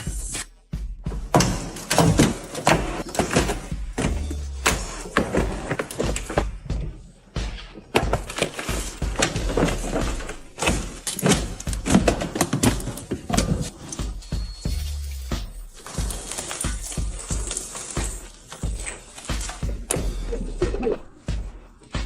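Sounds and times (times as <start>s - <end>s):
music with sharp percussive hits: 0.0s - 22.0s.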